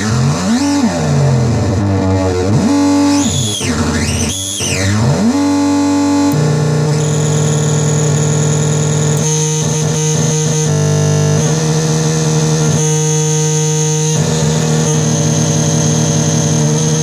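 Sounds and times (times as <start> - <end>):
buzzing synth drone: 0.0 - 17.0.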